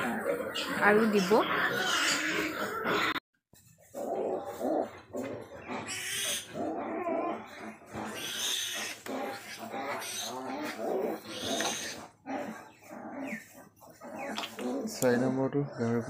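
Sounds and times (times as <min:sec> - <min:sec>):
pig grunting: 0:00.0 - 0:03.2, 0:03.8 - 0:16.0.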